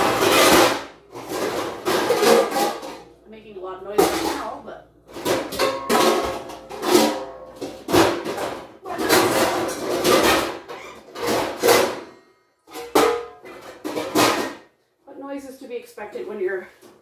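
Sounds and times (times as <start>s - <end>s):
pots and pans clattering: 0.0s - 3.2s, 4.0s - 14.7s.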